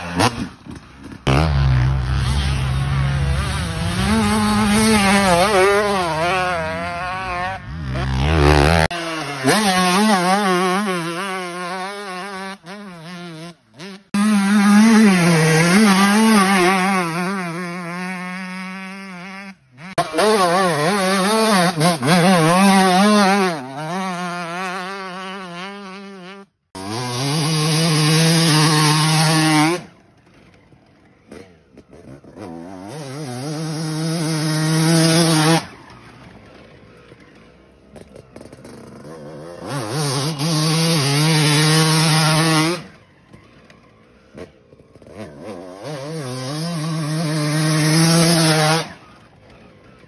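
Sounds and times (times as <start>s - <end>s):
motocross bike engines revving: 0.0s - 50.0s.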